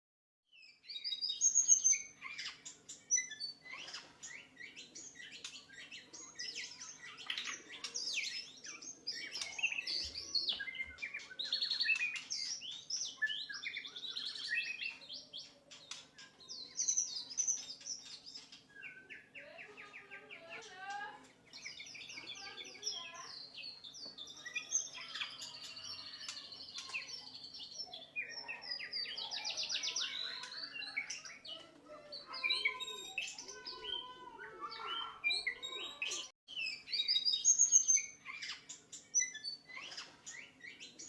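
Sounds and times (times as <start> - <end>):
bird singing whistles and chatter: 0.6 - 41.0.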